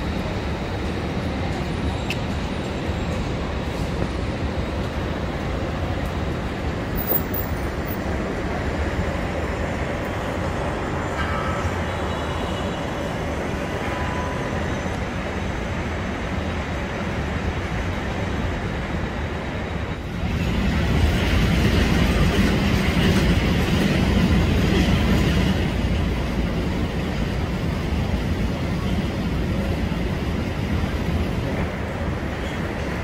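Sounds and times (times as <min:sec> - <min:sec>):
traffic on wet streets: 0:00.0 - 0:33.0.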